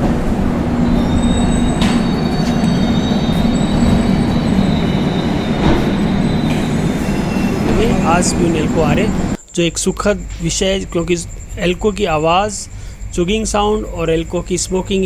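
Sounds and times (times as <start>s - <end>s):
high wheel squeal: 0.0s - 15.0s
train coaches rumbling: 0.0s - 15.0s.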